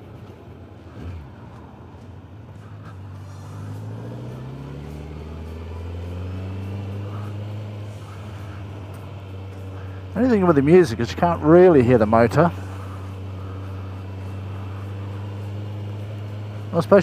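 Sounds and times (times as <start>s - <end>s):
motorcycle engine pulling away: 0.0s - 17.0s.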